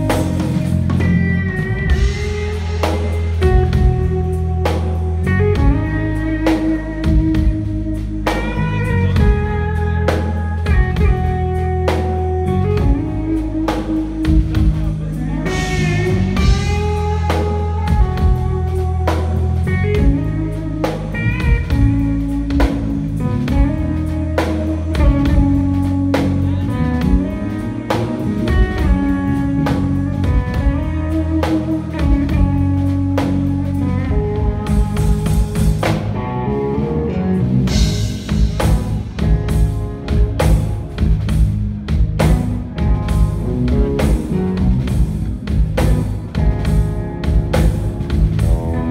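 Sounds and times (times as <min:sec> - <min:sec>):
bass guitar: 0:00.0 - 0:48.9
drum kit beat: 0:00.0 - 0:48.9
electric guitar lead: 0:00.0 - 0:48.9.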